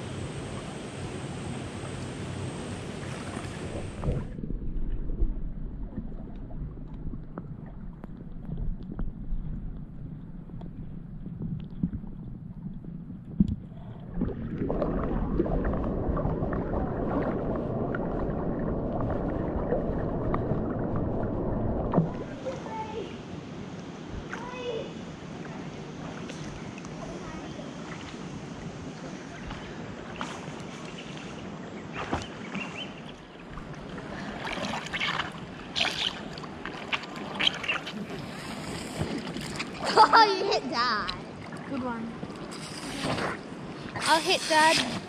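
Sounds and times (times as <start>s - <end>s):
water splashing from swimming: 3.0s - 22.8s, 25.5s - 45.0s.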